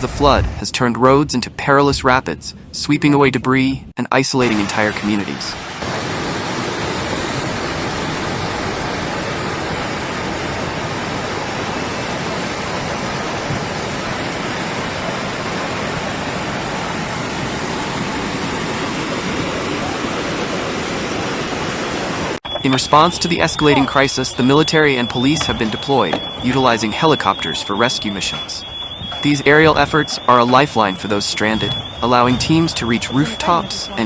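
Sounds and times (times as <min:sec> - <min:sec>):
floodwater rushing: 0:04.4 - 0:34.0.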